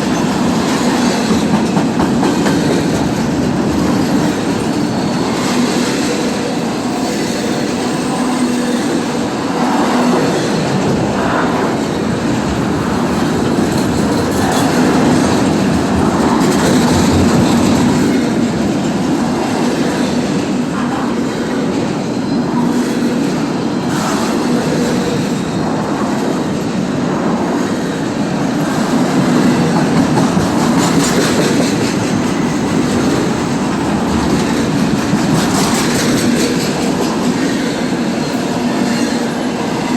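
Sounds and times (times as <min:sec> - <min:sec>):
freight train cars rumbling past: 0:00.0 - 0:39.9.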